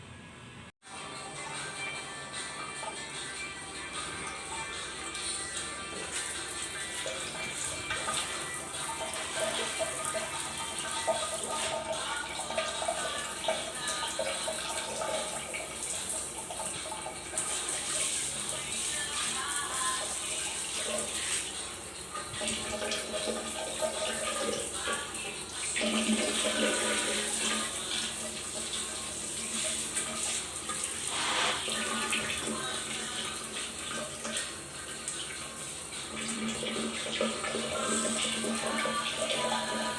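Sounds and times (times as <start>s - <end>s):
water running from a tap: 4.1s - 39.9s.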